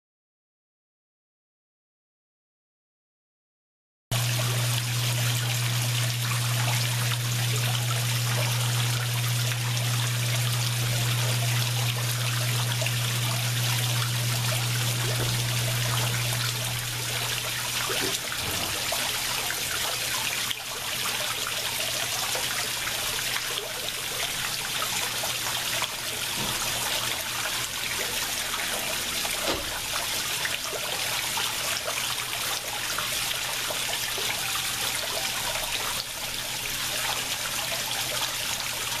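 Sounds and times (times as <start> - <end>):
water trickling into pond: 4.1 - 39.0.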